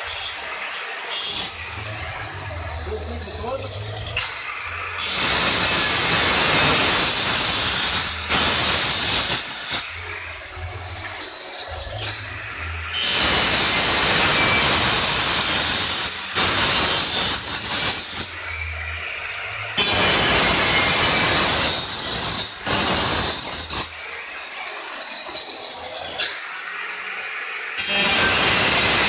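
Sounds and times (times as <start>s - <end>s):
tile cutter grinding tile: 0.0s - 24.0s, 27.8s - 29.0s.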